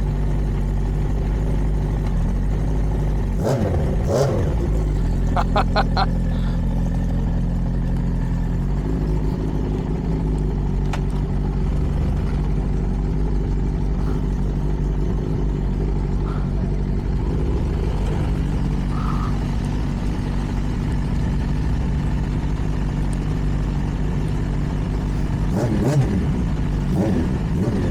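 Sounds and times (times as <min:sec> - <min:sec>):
motorcycle engine running steadily: 0:00.0 - 0:27.9.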